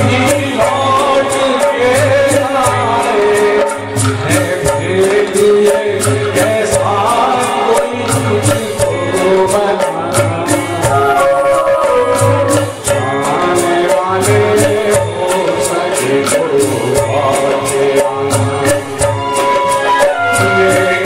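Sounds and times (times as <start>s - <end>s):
keyboards: 0.0s - 21.0s
man singing into a microphone: 0.0s - 21.0s
steady percussion beat: 0.0s - 21.0s
electric guitar: 2.6s - 21.0s.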